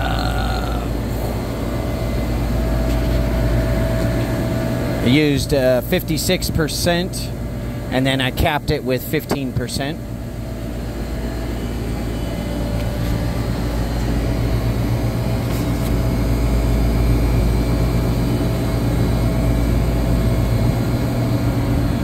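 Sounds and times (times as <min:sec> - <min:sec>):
chiller humming: 0:00.0 - 0:22.0.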